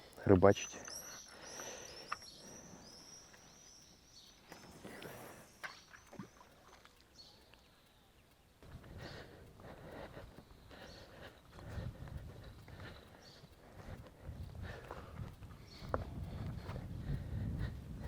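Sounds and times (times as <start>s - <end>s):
small bird chirping: 0.0s - 9.5s, 10.1s - 14.7s, 15.4s - 16.4s
faint clicks: 0.0s - 18.0s
riverside ambience: 0.0s - 18.0s.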